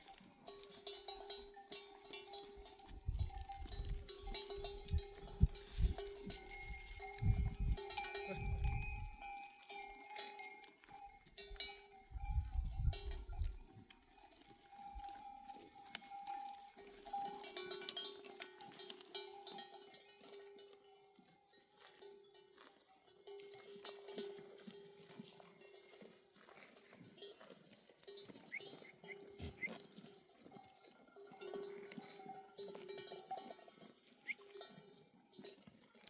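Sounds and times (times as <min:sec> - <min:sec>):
sheep bells clinking: 0:00.0 - 0:36.0.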